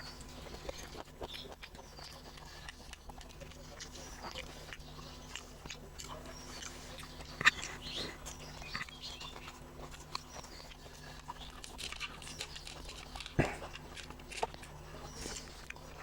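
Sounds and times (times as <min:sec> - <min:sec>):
faint low hum: 0:00.0 - 0:16.0
person chewing with wet clicks: 0:00.0 - 0:16.0.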